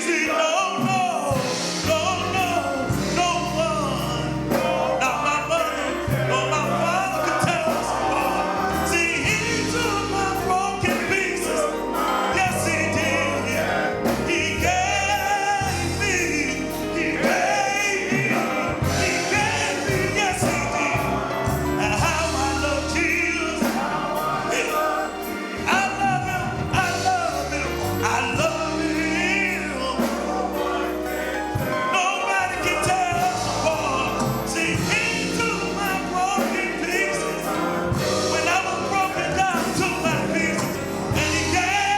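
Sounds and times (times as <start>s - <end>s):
gospel choir singing: 0.0s - 41.9s
bass and drums beat: 1.3s - 32.0s, 32.6s - 41.9s.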